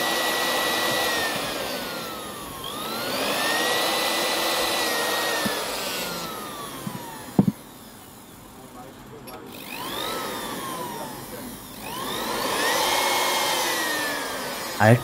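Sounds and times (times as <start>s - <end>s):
sewing machine motor whining: 0.0s - 15.0s.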